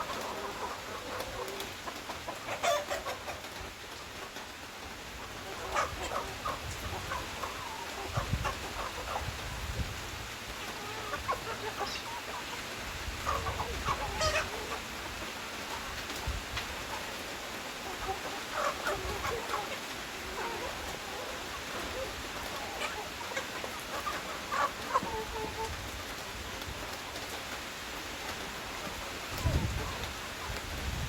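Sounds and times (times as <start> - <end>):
chickens clucking: 0.0 - 31.0
steady background hiss: 0.0 - 31.0.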